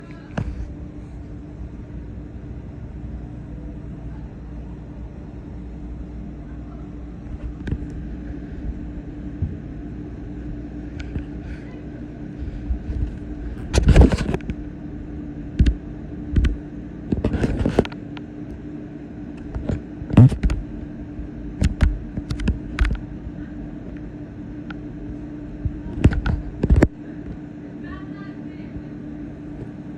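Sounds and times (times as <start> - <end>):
vehicle engine humming: 0.0 - 29.8.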